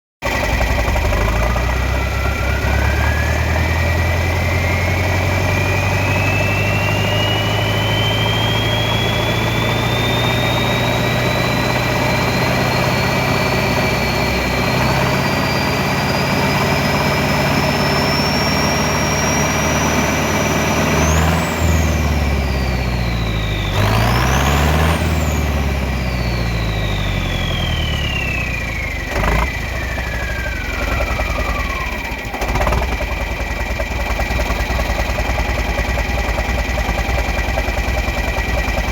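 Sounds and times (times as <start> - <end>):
tractor engine running: 0.2 - 38.9
turbocharger whistle: 0.3 - 38.9.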